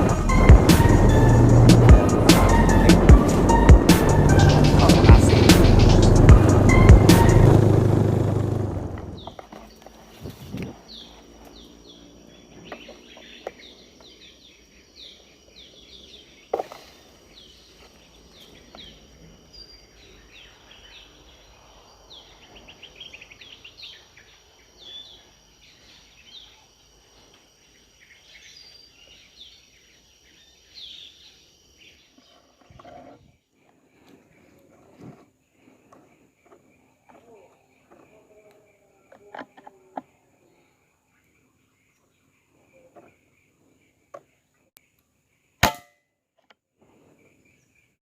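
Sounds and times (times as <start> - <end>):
insect drone: 0.0 - 44.0
bird chirping: 0.0 - 45.9.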